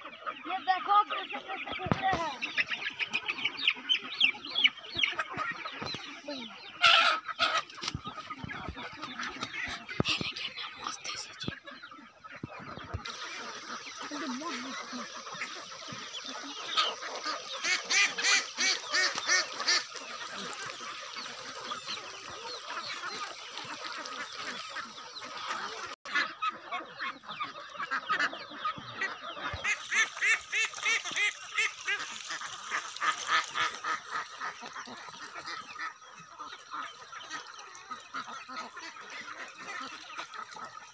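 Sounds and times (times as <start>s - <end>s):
ducks and chickens calling: 0.0s - 40.9s.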